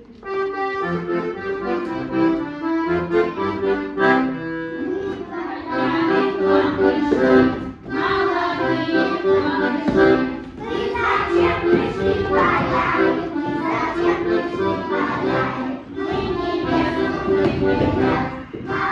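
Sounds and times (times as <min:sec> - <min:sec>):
accordion playing folk tune: 0:00.0 - 0:18.9.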